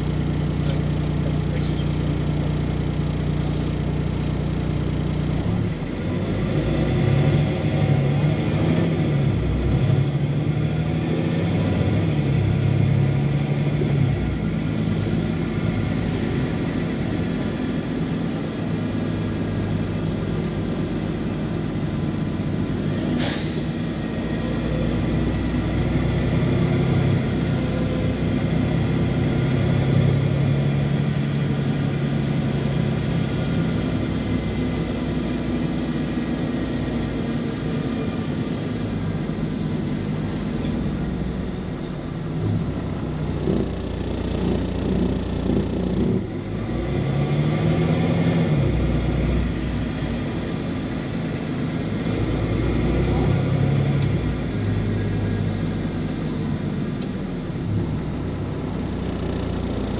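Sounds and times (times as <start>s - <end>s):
bus diesel engine humming: 0.0s - 59.9s
road noise: 0.0s - 59.9s.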